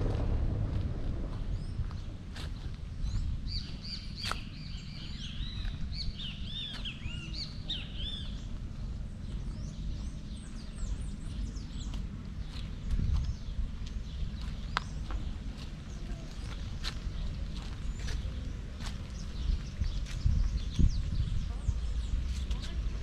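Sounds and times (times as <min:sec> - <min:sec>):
steady low rumble: 0:00.0 - 0:23.0
small birds chirping: 0:01.5 - 0:23.0.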